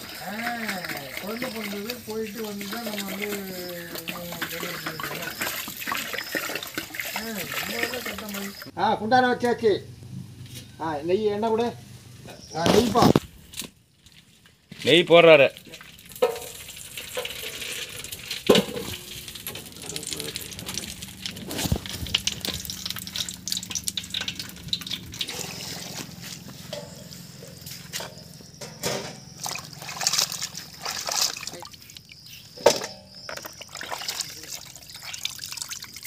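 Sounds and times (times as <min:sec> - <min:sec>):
water splashing in bucket: 0:00.0 - 0:08.7, 0:14.8 - 0:36.0.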